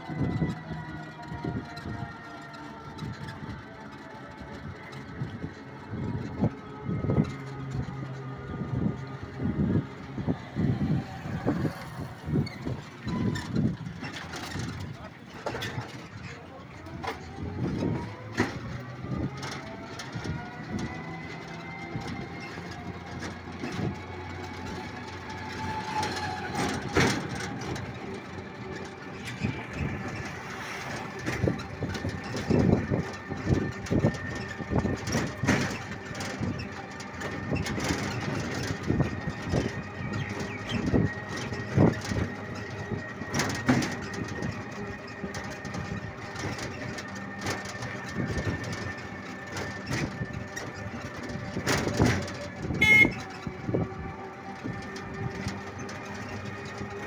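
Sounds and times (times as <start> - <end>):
motor rickshaw whine: 0.0 - 57.0
vehicle body rattling: 0.0 - 57.0.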